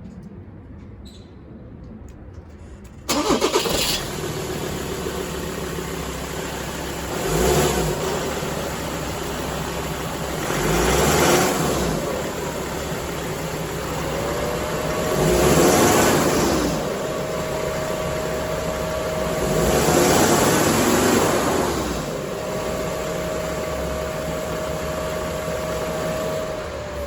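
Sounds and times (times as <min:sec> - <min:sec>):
van engine cranking: 0:02.9 - 0:27.0
van engine idling: 0:03.0 - 0:27.0
engine revving: 0:03.1 - 0:27.0.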